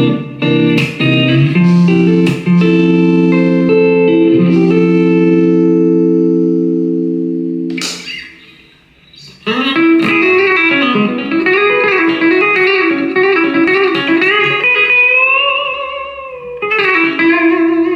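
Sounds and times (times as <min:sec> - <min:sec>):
electric guitar lead: 0:00.0 - 0:17.9.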